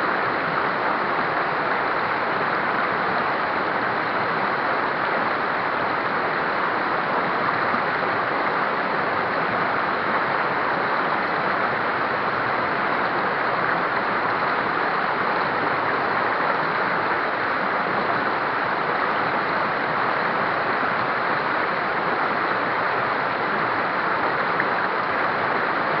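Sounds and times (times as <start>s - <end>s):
river rapids rushing over rocks: 0.0s - 26.0s.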